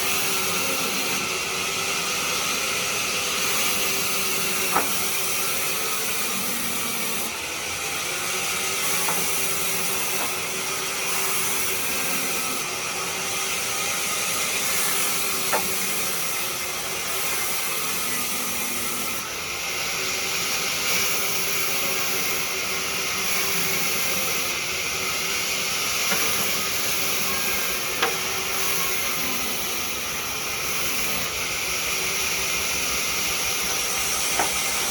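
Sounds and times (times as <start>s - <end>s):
wood lathe cutting spinning wood: 0.0s - 34.9s.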